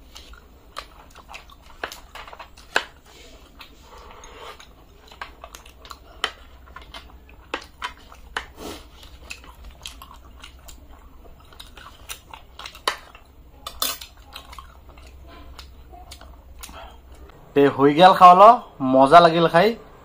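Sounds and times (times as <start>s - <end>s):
chewing and mouth sounds: 0.0s - 17.4s.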